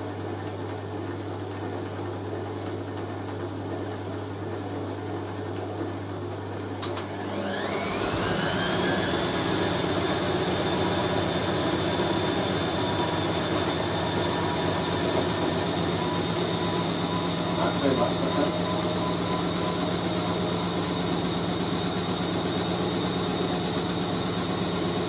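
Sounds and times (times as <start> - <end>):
washing machine motor whine: 0.0 - 25.0.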